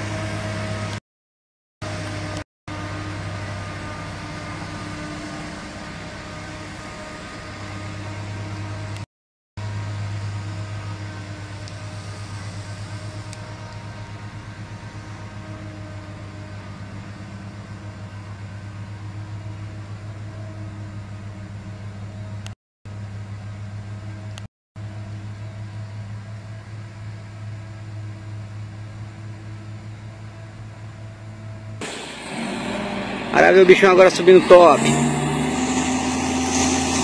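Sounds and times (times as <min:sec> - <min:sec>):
diesel truck engine idling: 0:01.8 - 0:09.0, 0:09.6 - 0:37.0.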